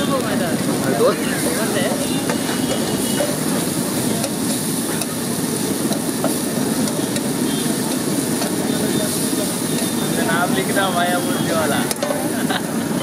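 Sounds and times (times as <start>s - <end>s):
liver sizzling on a griddle: 0.0s - 13.0s.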